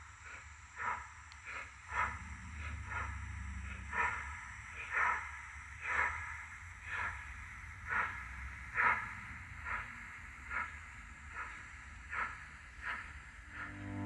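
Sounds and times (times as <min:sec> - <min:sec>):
low rumble of train on track: 0:00.0 - 0:14.0
model steam locomotive chuffing: 0:00.0 - 0:14.0.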